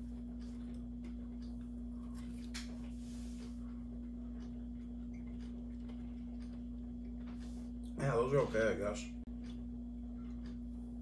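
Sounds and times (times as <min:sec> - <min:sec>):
person chewing: 0:00.0 - 0:08.0, 0:09.3 - 0:11.0
steady low hum: 0:00.0 - 0:11.0.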